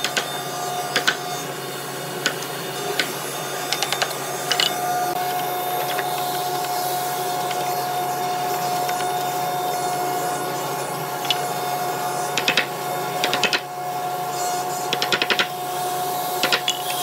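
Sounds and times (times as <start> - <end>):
machine hum: 0.0 - 14.9.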